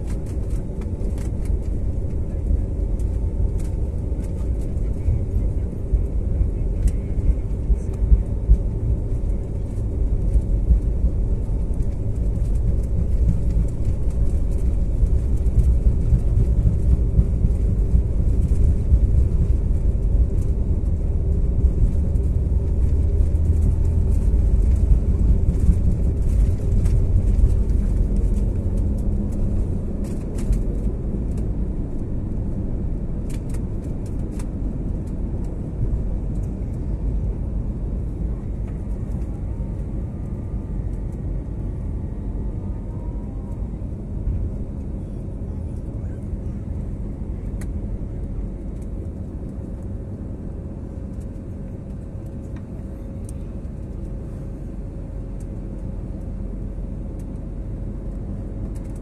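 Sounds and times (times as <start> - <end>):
wheels rumbling on runway: 0.0 - 59.0.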